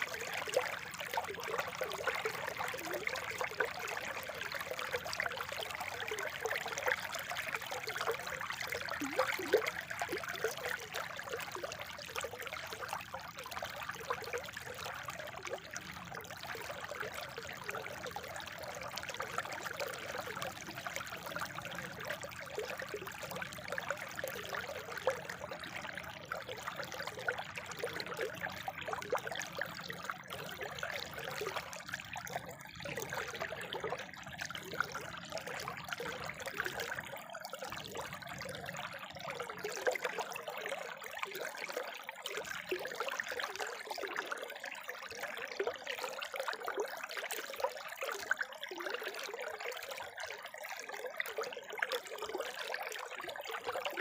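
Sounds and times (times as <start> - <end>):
spring water trickling and splashing: 0.0 - 54.0.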